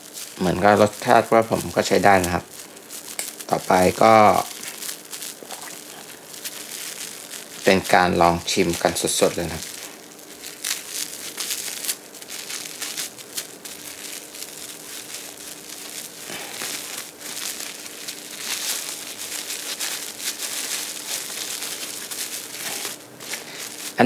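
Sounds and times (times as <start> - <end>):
plastic wrap crinkling: 0.0 - 24.0.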